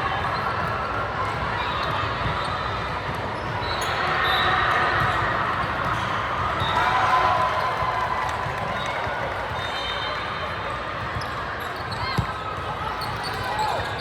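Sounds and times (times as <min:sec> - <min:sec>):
crowd voices: 0:00.0 - 0:14.0.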